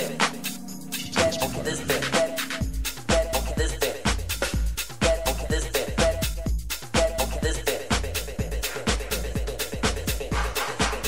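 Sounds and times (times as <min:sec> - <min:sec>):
hi-hats: 0:00.0 - 0:11.0
house music kick drum: 0:00.0 - 0:11.0.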